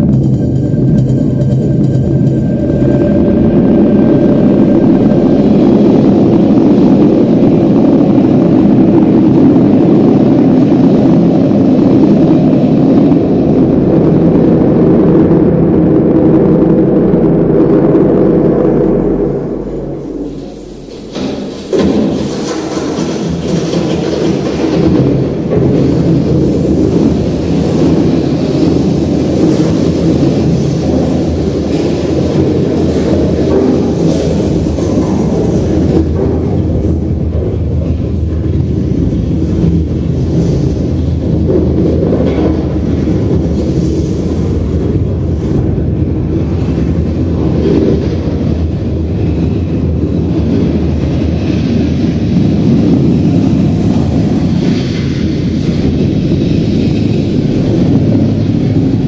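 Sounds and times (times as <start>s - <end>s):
engine rumble over loudspeakers: 0.0s - 59.0s.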